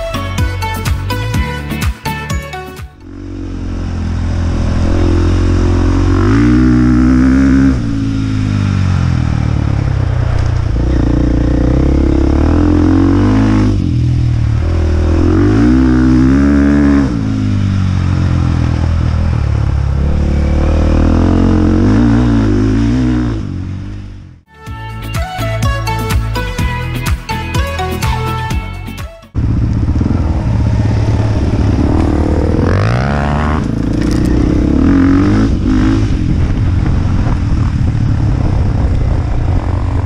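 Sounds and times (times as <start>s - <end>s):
dirt bike engine revving: 2.9s - 24.4s, 29.4s - 40.0s.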